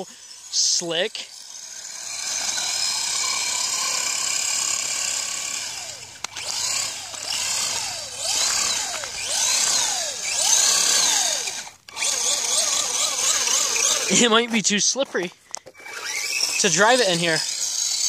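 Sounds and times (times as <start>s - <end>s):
electric motor whining: 0.0s - 14.3s, 15.6s - 18.0s.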